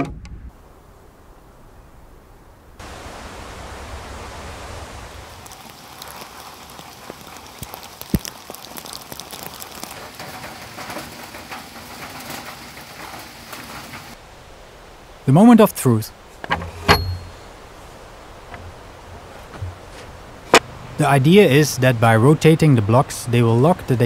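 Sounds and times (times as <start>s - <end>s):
rain falling on leaves: 0.6s - 16.5s, 17.3s - 24.0s.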